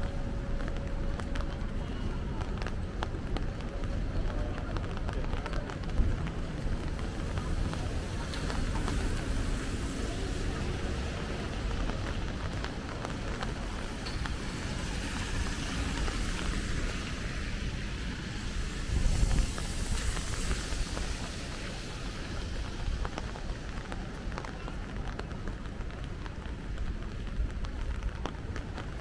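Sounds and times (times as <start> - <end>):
traffic on wet street: 0.0 - 29.0.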